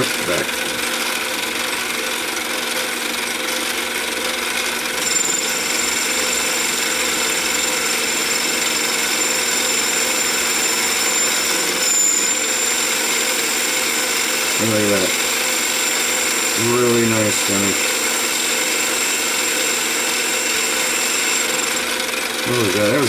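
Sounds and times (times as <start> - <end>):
lathe motor and gear whine: 0.0 - 23.0.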